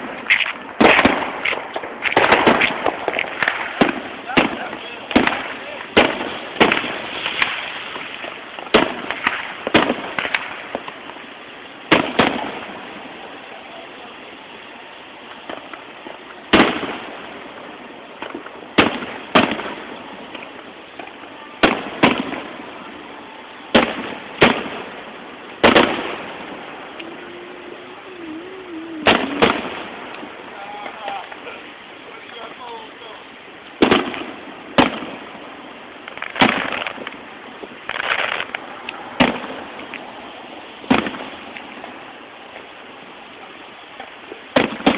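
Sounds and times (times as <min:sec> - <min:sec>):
fireworks bursting with sharp bangs: 0:00.0 - 0:44.9.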